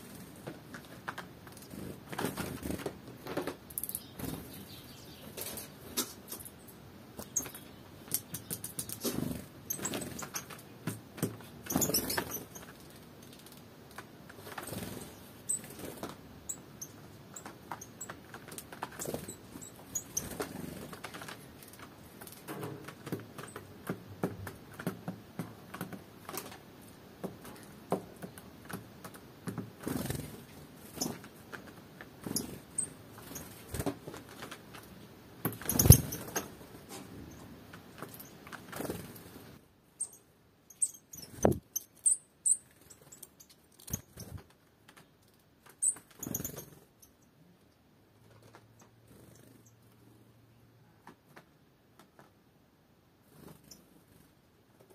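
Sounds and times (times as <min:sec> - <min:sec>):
bird pecking and scrabbling: 0:00.0 - 0:04.6, 0:07.2 - 0:47.1.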